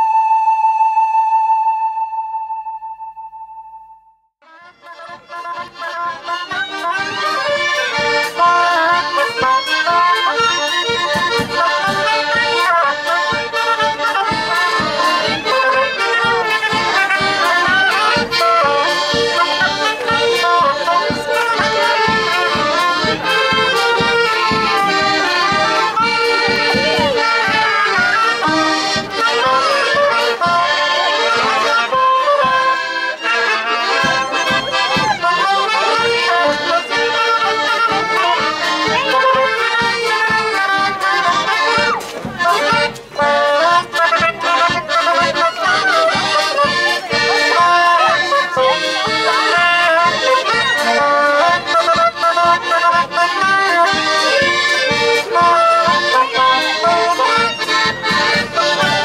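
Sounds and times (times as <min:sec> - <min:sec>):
accordion folk dance music: 0:00.0 - 0:02.6, 0:04.4 - 0:59.0.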